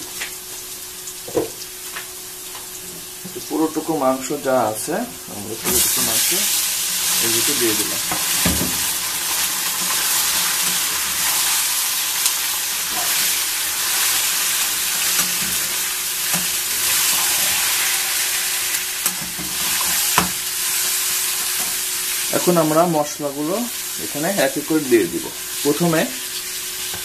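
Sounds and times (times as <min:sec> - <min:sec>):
meat sizzling in hot oil: 0:00.0 - 0:27.0.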